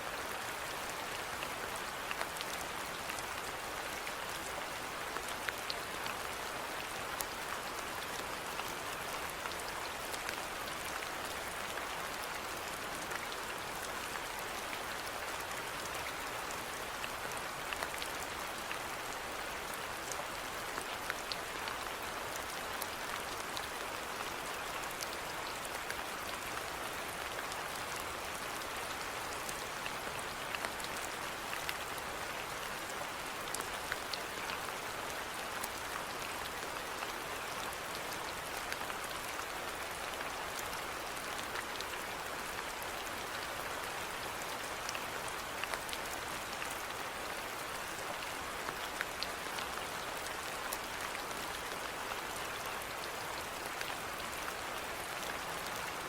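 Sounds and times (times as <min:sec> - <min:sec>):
steady rainfall: 0:00.0 - 0:56.0
raindrops ticking on surfaces: 0:00.1 - 0:56.0.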